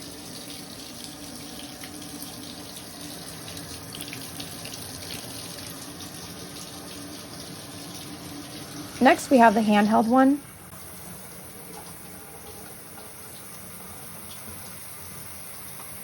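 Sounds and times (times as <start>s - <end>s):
water pouring into tub: 0.0s - 15.3s.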